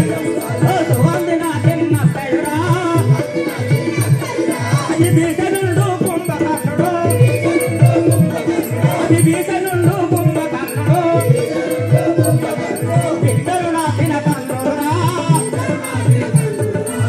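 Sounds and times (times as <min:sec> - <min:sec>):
drum beating steady rhythm: 0:00.0 - 0:17.0
rattling percussion: 0:00.0 - 0:17.0.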